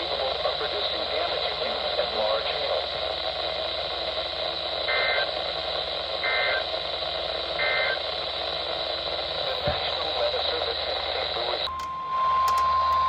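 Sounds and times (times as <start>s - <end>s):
radio hiss: 0.0s - 11.7s.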